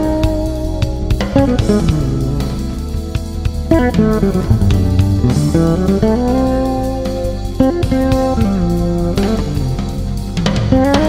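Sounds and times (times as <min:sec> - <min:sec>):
fretless bass solo: 0:00.0 - 0:11.0.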